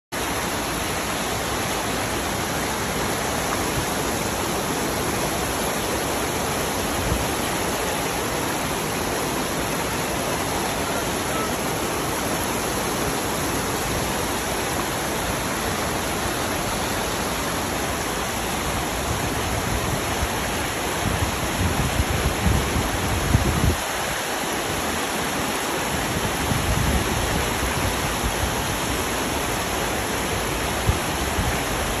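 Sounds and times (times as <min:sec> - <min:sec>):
floodwater rushing down a street: 0:00.2 - 0:32.0.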